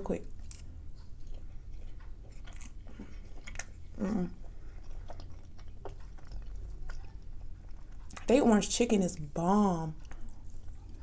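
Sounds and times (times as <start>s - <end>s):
close-up chewing with crunches: 0.3s - 11.0s.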